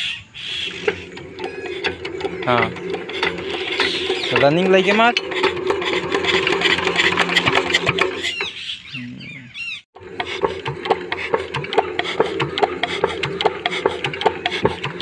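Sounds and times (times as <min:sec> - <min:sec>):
diesel engine knocking: 0:00.7 - 0:08.5, 0:10.0 - 0:15.0.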